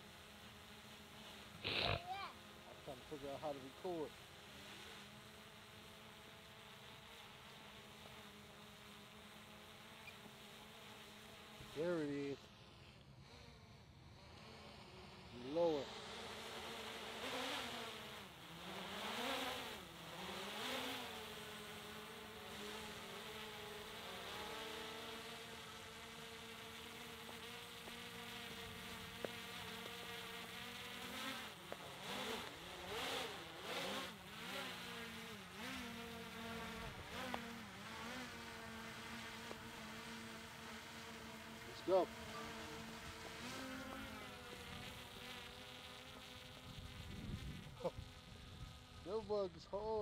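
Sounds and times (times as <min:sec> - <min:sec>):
drone propellers buzzing: 0:00.0 - 0:50.0.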